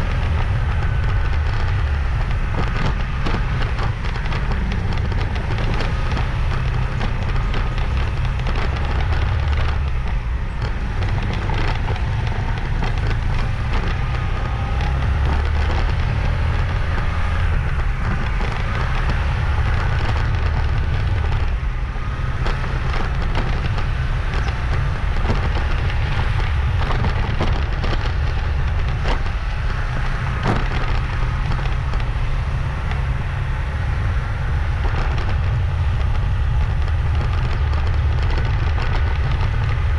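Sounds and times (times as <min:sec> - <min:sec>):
motorbike engine and road noise: 0:00.0 - 0:39.9
wind buffeting microphone: 0:00.0 - 0:39.9.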